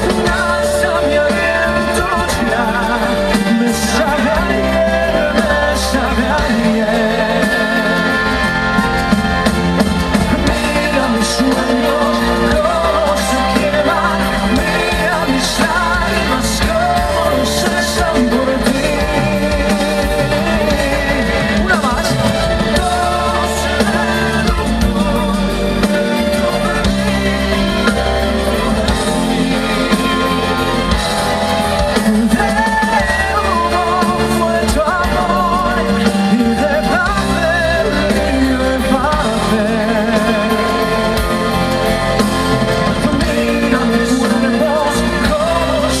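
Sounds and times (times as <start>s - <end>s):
person singing with vibrato: 0.0s - 46.0s
pop ballad with live band: 0.0s - 46.0s.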